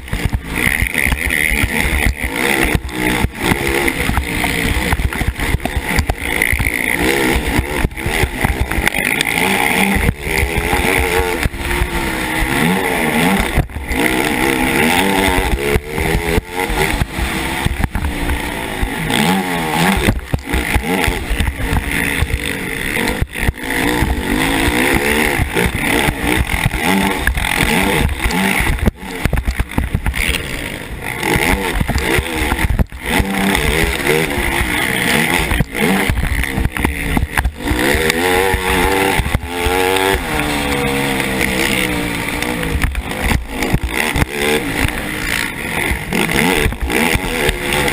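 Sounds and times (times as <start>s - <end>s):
quad engine revving: 0.0s - 47.9s.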